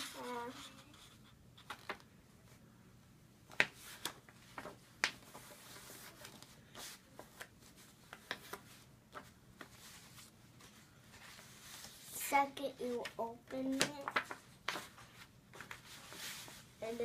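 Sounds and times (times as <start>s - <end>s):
paper being folded and creased: 0.0s - 2.1s, 3.5s - 17.0s.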